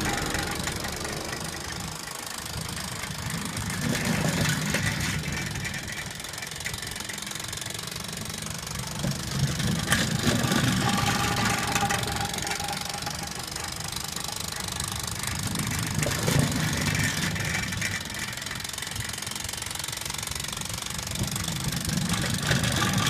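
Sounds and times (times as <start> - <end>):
model steam engine chuffing: 0.0 - 23.0.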